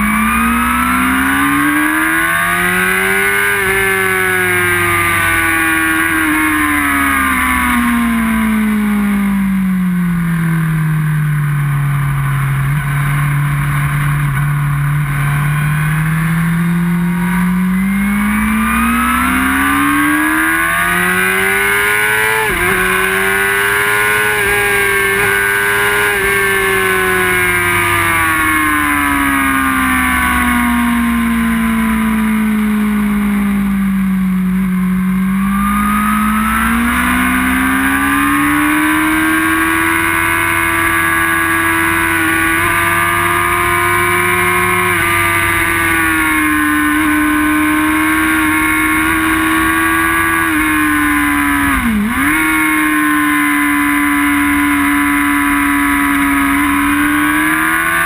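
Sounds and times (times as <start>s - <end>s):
sportbike engine revving: 0.0s - 58.0s.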